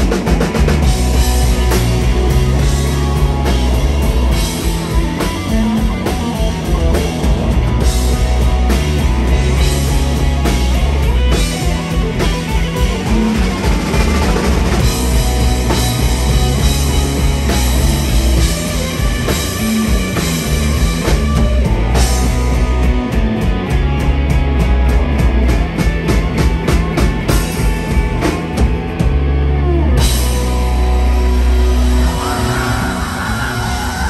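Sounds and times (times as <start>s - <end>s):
live rock band playing: 0.0s - 34.0s.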